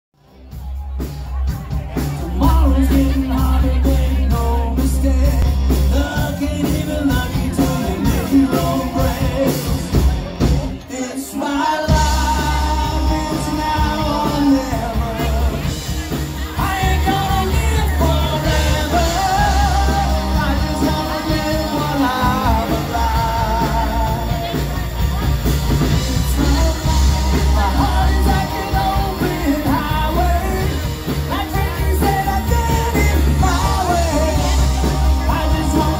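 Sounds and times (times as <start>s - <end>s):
bass and drums: 0.2s - 35.9s
man singing: 1.8s - 35.9s.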